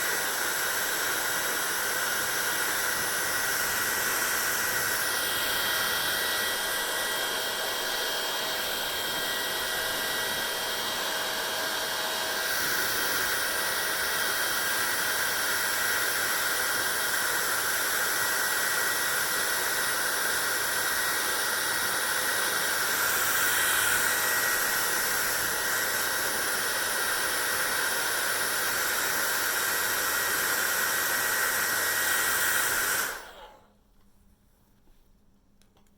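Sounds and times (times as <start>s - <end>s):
hair dryer running: 0.0s - 33.8s.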